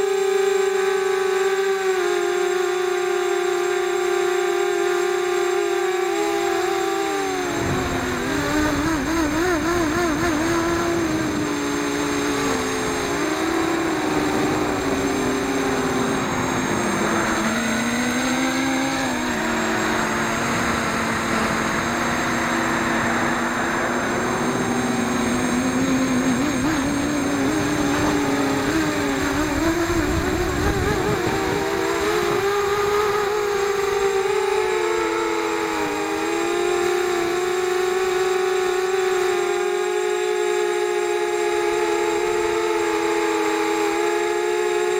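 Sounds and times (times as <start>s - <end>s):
quadcopter motors whining: 0.0s - 44.9s.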